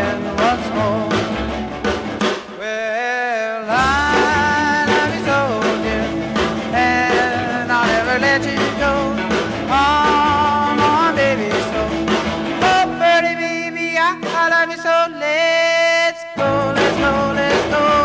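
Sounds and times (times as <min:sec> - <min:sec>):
rock and roll music with singing: 0:00.0 - 0:18.0.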